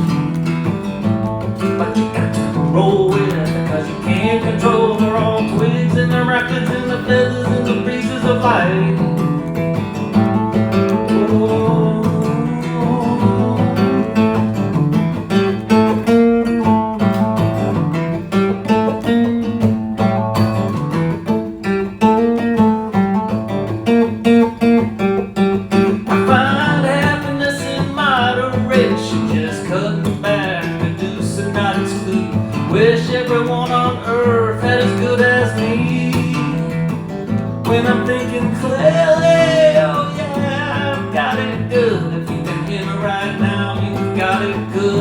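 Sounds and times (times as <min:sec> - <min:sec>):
strummed acoustic guitar: 0:00.0 - 0:45.0.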